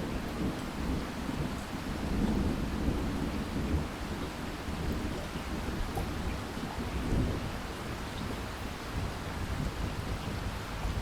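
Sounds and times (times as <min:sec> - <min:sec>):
steady rainfall: 0:00.0 - 0:11.0.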